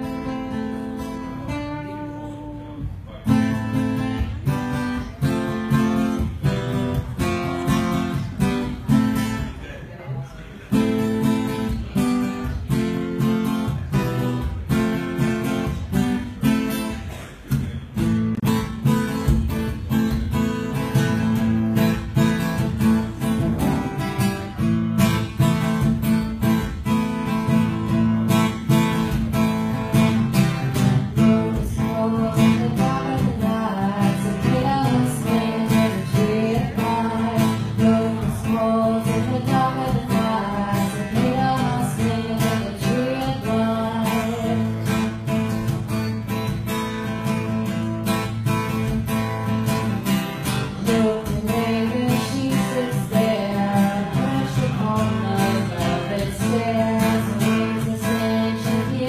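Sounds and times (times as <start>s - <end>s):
acoustic guitars strumming: 0.0s - 59.0s.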